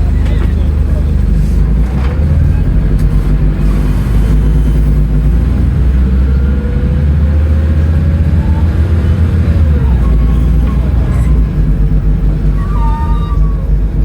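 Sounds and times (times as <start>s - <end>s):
bus diesel engine running: 0.0s - 14.0s
gearbox whine: 0.0s - 14.0s.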